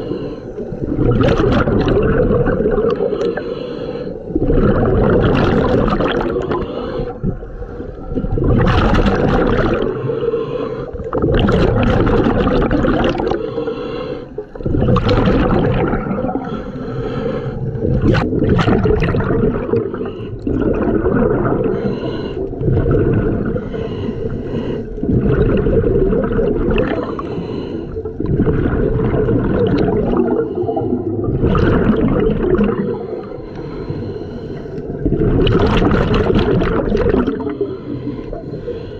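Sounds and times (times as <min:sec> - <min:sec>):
exhaled air bubbling underwater: 0:00.0 - 0:38.9.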